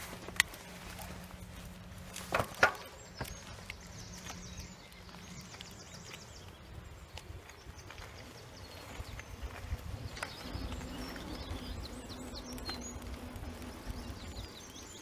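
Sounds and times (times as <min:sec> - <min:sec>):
bicycle rattling on rough tarmac: 0:00.0 - 0:15.0
faint bird twittering: 0:02.8 - 0:15.0.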